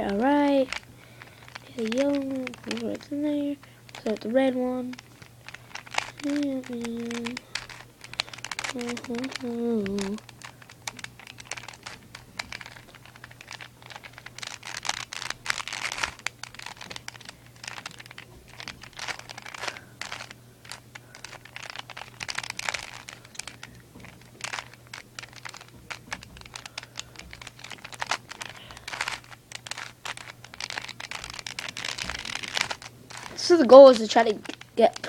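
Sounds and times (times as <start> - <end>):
puzzle cube clicking: 0.0 - 35.0.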